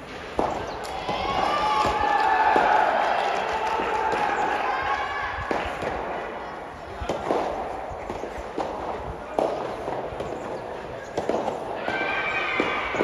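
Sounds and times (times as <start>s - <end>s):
voices shouting: 0.4s - 8.6s, 9.4s - 13.0s.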